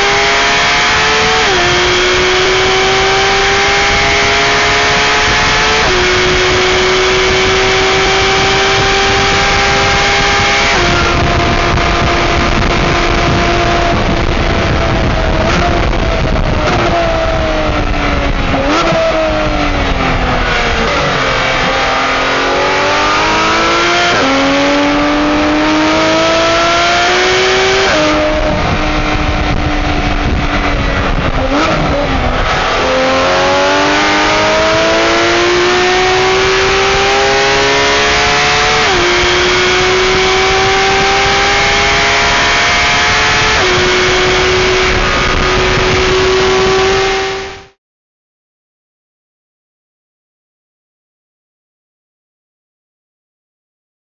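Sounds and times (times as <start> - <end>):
car engine revving: 0.0 - 47.8.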